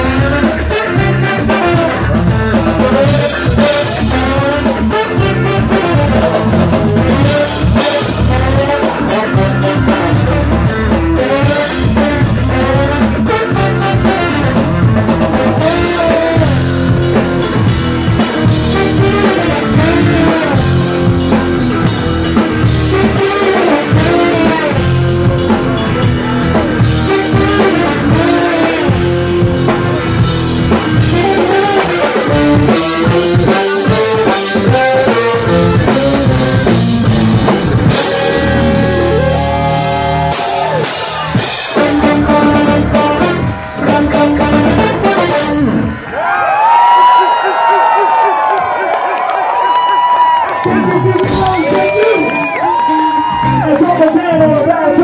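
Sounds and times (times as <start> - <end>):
trombone sliding lead line: 0.0 - 49.2
bass: 0.0 - 55.0
drum kit: 0.0 - 55.0.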